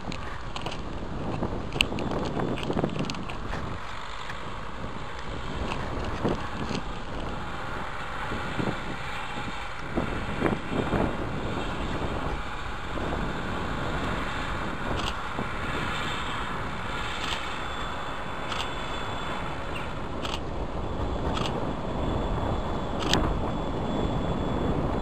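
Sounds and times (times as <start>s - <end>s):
diesel locomotives rumbling: 0.0s - 25.0s
wind on microphone: 0.0s - 25.0s.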